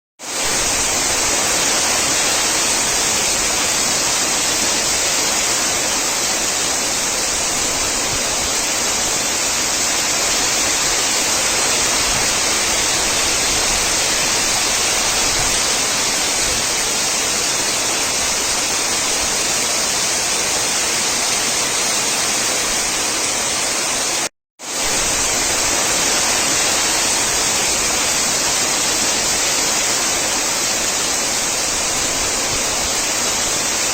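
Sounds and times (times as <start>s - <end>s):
heavy rain: 0.2s - 33.9s
strong wind: 0.2s - 33.9s.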